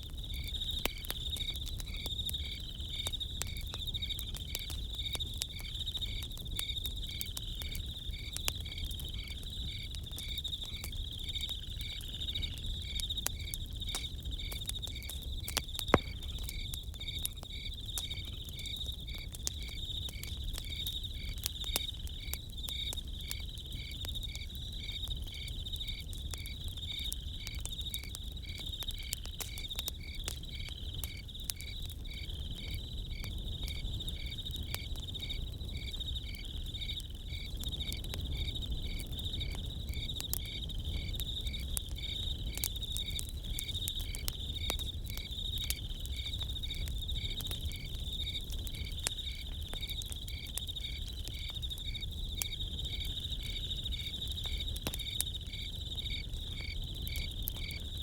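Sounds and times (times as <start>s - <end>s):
campfire crackling: 0.0s - 58.0s
crickets chirping: 0.0s - 58.0s.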